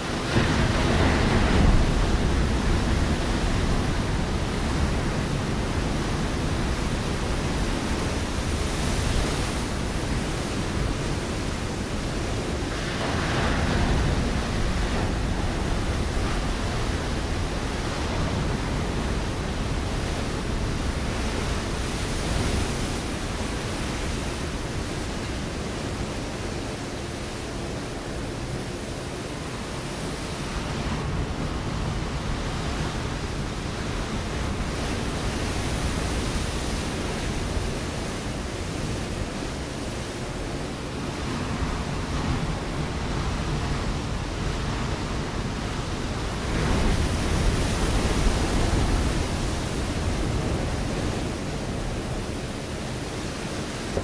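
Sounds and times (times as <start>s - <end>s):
ocean waves on rocky shore: 0.0s - 54.0s.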